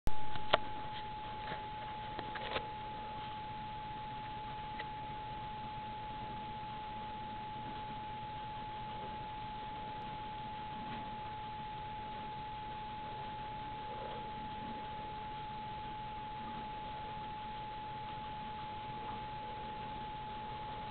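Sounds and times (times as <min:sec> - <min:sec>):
steady high-pitched whine: 0:00.1 - 0:20.9.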